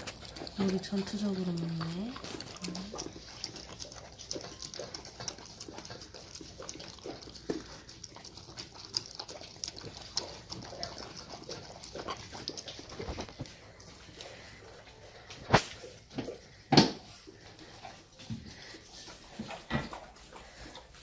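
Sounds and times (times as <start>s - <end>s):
dog chewing wet food: 0.0s - 21.0s.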